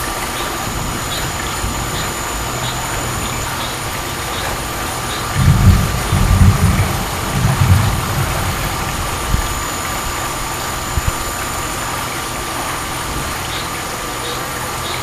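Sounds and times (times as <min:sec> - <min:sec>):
thunder rumbling: 0:00.0 - 0:14.0
steady hiss: 0:00.0 - 0:15.0.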